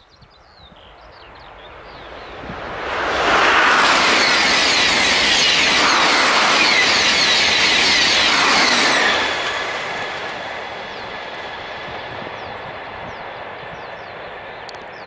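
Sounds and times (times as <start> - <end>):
high-speed train passing: 0.2 - 15.0.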